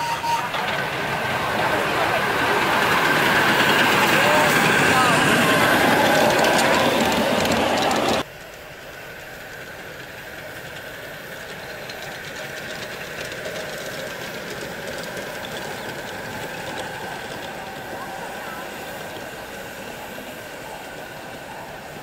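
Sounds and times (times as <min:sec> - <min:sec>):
model steam locomotive running: 0:00.0 - 0:22.0.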